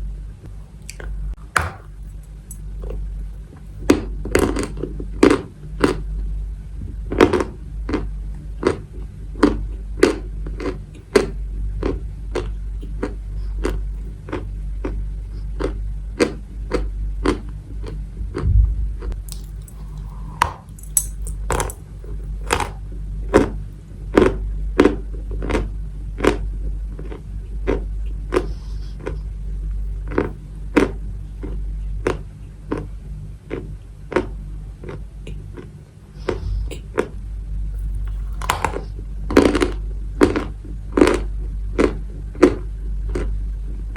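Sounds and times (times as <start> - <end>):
steady low hum: 0.0 - 43.9
chalk crunching while chewed: 0.7 - 6.1, 7.1 - 18.1, 19.0 - 22.8, 24.2 - 37.2, 37.8 - 43.8.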